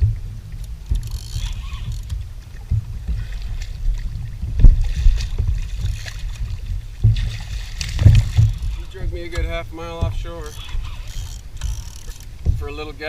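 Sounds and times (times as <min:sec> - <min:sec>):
dull knocks against kayak: 0:00.0 - 0:12.9
wind buffeting microphone: 0:00.0 - 0:13.0.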